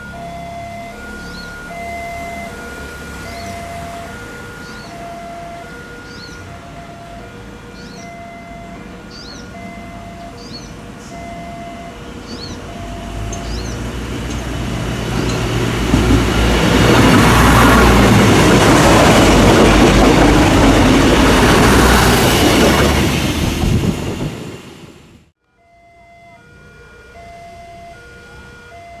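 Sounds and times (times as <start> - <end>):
diesel train passing: 0.0 - 25.4.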